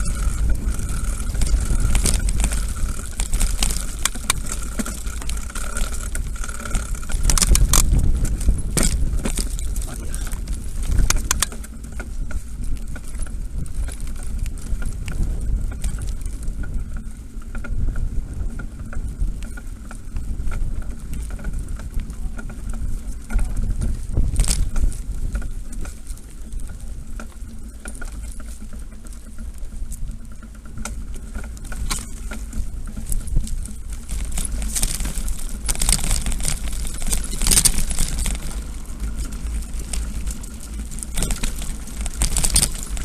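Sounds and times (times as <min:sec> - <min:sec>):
bike clicking and rattling: 0:00.0 - 0:43.0
wind and ground rumble: 0:00.0 - 0:43.0.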